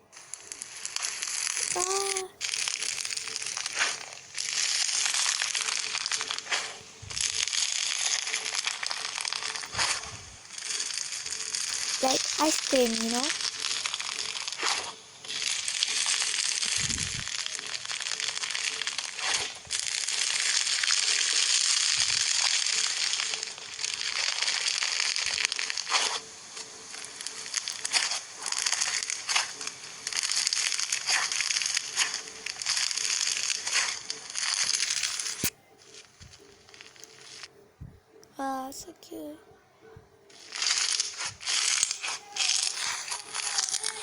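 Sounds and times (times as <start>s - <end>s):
crisp material crunching: 0.1s - 37.5s, 40.3s - 44.0s.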